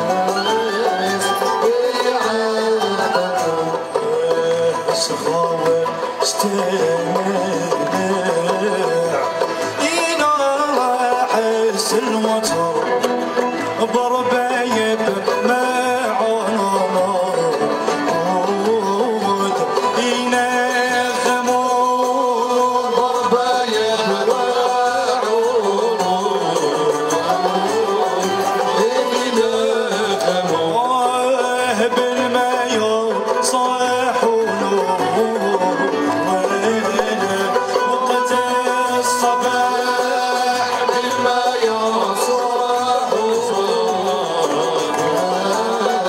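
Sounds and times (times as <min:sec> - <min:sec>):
man singing ornamented melody: 0:00.0 - 0:46.0
string ensemble: 0:00.0 - 0:46.0.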